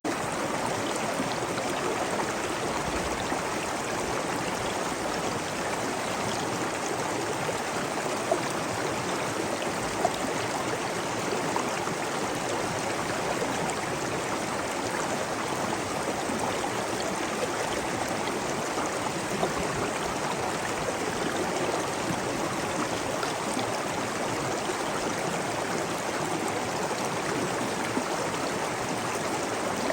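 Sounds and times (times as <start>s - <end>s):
stream babbling over stones: 0.1s - 29.9s.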